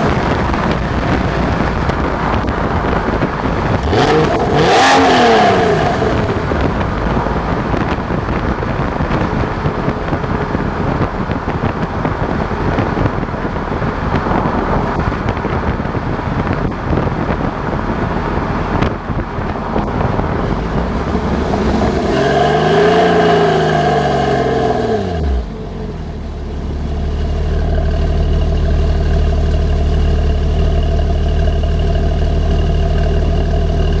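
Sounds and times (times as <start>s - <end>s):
car engine revving and idling: 0.0s - 34.0s.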